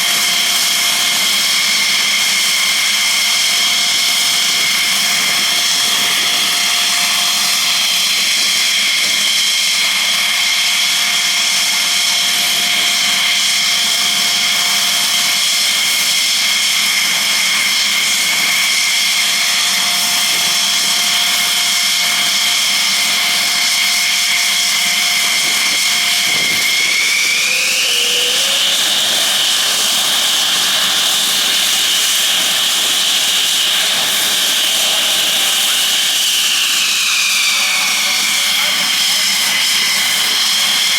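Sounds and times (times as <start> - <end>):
jet engine high-pitched whine: 0.0 - 40.9.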